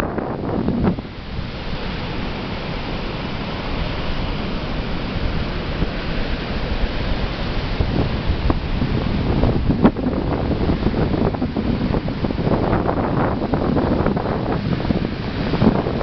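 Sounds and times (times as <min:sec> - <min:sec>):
surf washing ashore: 0:00.0 - 0:16.0
wind buffeting microphone: 0:00.0 - 0:16.0.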